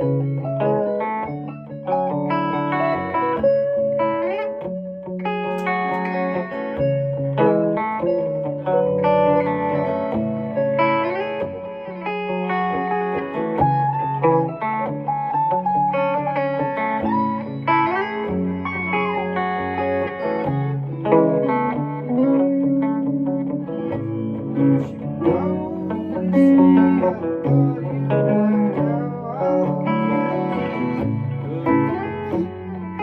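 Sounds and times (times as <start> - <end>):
guitars jamming: 0.0 - 33.0.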